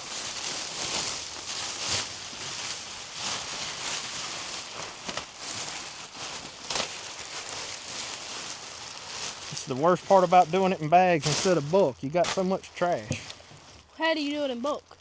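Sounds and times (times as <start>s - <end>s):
plastic bags rustling: 0.0s - 15.0s
sharp crackles: 0.0s - 15.0s.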